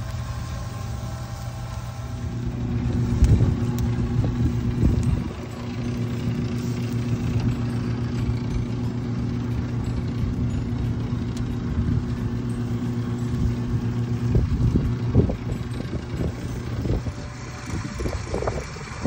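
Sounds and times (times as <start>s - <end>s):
low rumble: 0.0s - 19.0s
rotisserie motor humming: 0.0s - 19.0s.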